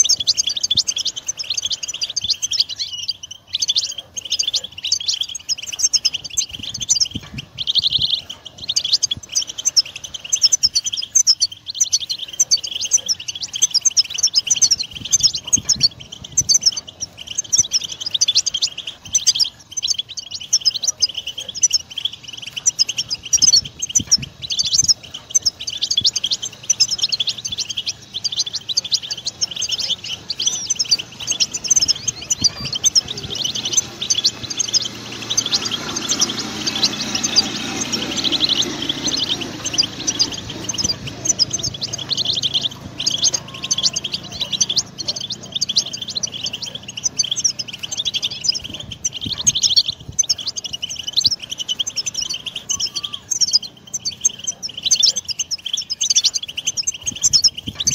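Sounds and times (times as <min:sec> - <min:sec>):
goldfinch twittering song: 0:00.0 - 0:57.9.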